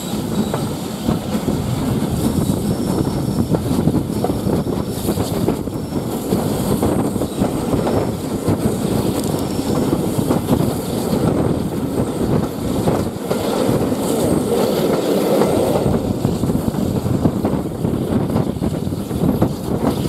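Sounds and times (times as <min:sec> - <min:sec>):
train coaches running on track: 0:00.0 - 0:20.0
wind on microphone: 0:00.0 - 0:20.0.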